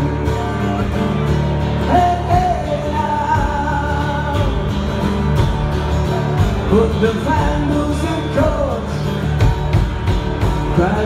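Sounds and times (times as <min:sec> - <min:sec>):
acoustic guitar strumming: 0:00.0 - 0:11.0
person singing folk song: 0:00.0 - 0:11.0
bass drum: 0:01.9 - 0:11.0.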